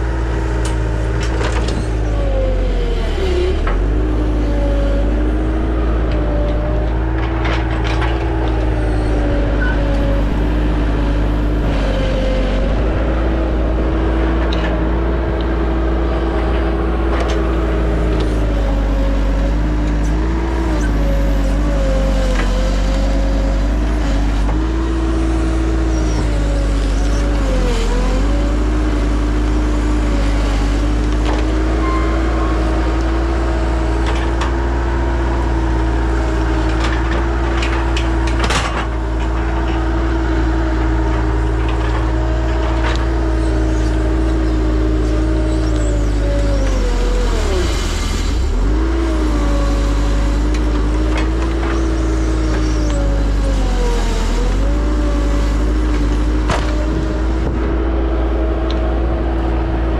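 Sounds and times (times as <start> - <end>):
diesel engine at high revs: 0.0 - 59.9.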